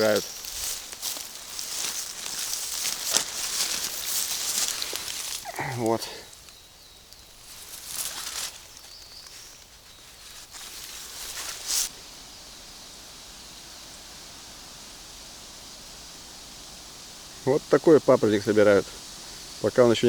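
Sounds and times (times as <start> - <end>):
rustling of undergrowth: 0.0 - 20.0
steady hiss: 0.0 - 20.0.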